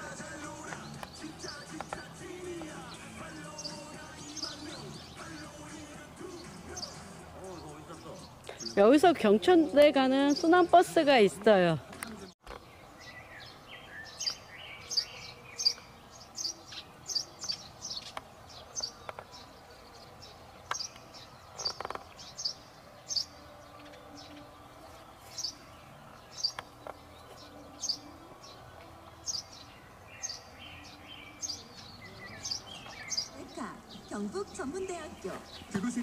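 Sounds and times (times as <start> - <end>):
small bird chirping: 0.1 - 8.9, 12.6 - 36.0.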